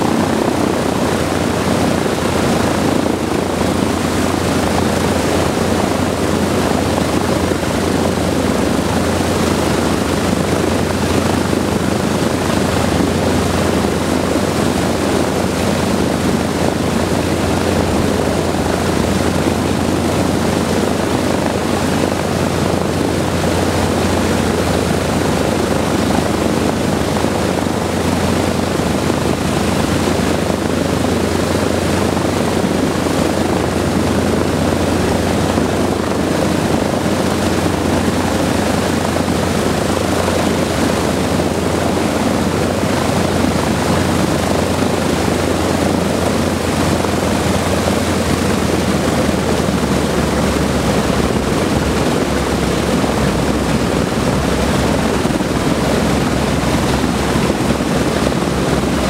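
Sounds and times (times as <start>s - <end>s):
propeller engines droning: 0.0s - 59.0s.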